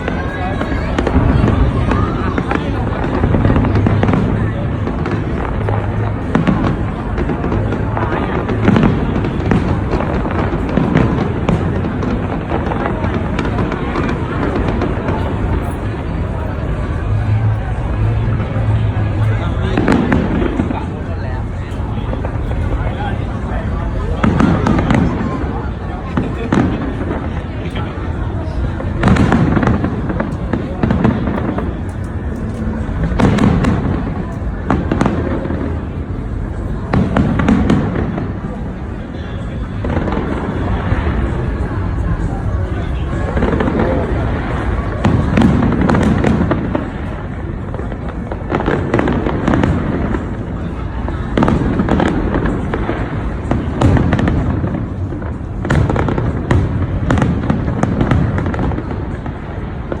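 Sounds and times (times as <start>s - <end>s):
low rumble of firework bursts: 0.0s - 60.0s
sharp firework bangs: 0.0s - 60.0s.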